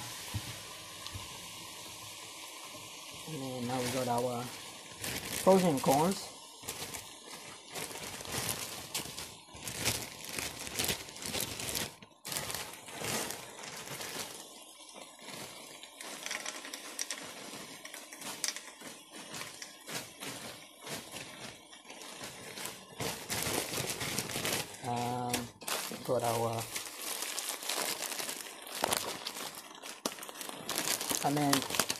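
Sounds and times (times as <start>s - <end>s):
plastic bag crinkling: 3.3s - 31.9s
irregular crackling: 5.0s - 31.9s.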